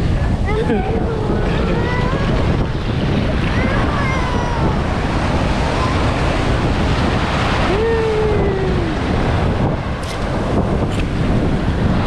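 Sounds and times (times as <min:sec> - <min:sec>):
ocean surf churning: 0:00.0 - 0:12.0
wind on microphone: 0:00.0 - 0:12.0.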